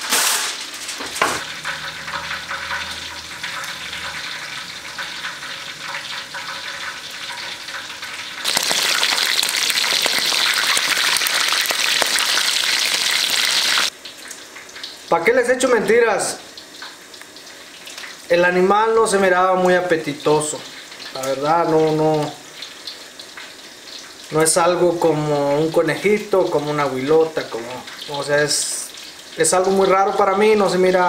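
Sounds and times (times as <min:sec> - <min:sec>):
meat frying in hot oil: 0:00.0 - 0:31.0.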